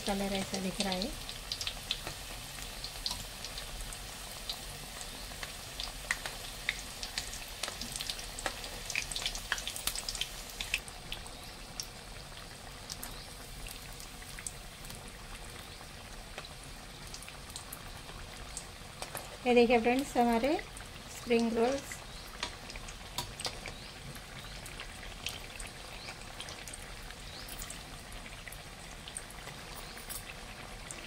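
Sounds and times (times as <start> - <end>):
oil popping and crackling: 0.0 - 31.0
spring rolls sizzling in oil: 0.0 - 31.0.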